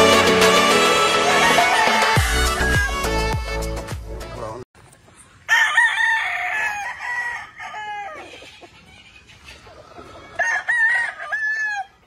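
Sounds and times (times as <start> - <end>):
roosters crowing: 0.0 - 3.5, 5.4 - 12.0.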